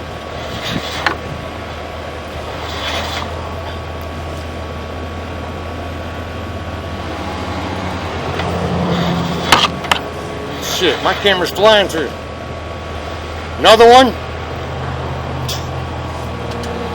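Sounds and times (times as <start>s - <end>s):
low machine hum: 0.0s - 16.9s
noisy rush: 0.0s - 16.9s.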